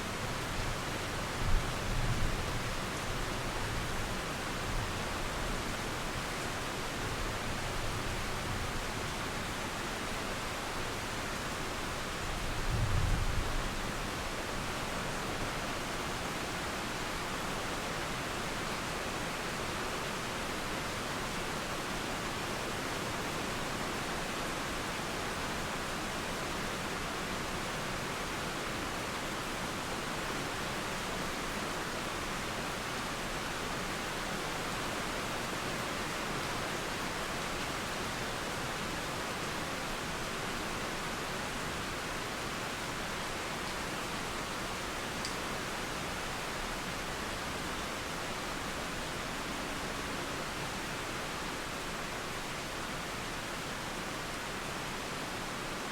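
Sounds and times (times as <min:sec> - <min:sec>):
flowing river: 0:00.0 - 0:55.9
steady rain: 0:00.0 - 0:55.9.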